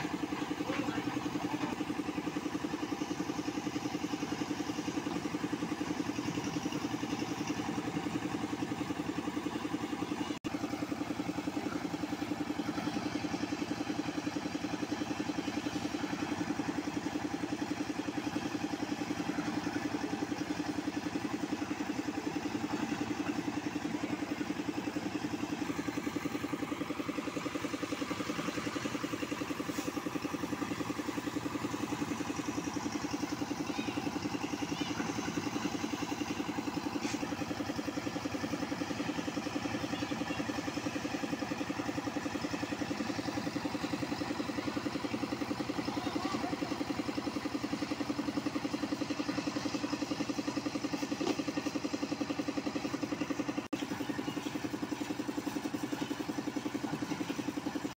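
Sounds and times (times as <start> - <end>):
concrete mixer engine running: 0.0 - 57.9.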